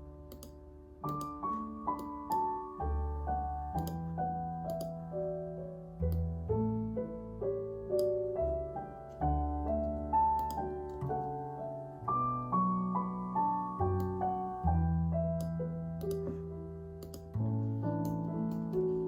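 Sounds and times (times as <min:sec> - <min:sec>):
calm piano music: 0:00.0 - 0:19.0.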